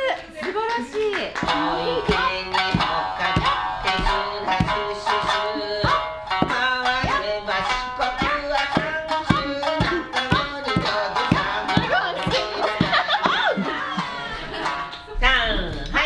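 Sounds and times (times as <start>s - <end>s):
shamisen plucked notes: 1.3s - 16.0s.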